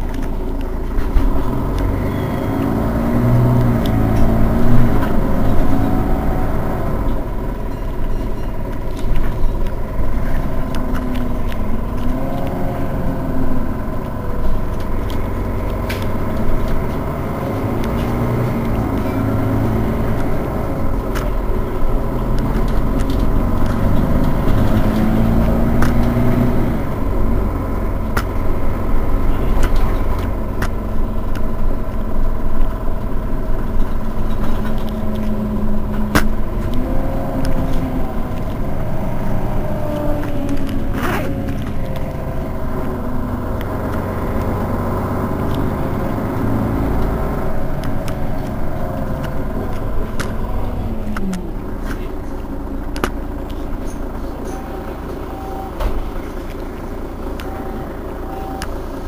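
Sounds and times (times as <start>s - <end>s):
bus diesel engine idling: 0.0s - 59.0s
steady high whine: 0.0s - 59.0s.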